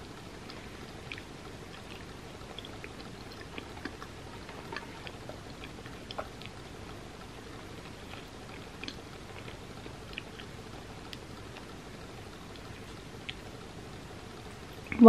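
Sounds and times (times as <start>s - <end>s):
mouth chewing food: 0.1s - 15.0s.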